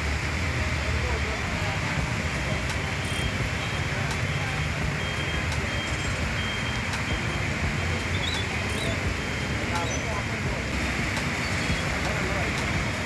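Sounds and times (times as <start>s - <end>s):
road traffic on wet road: 0.0s - 13.0s.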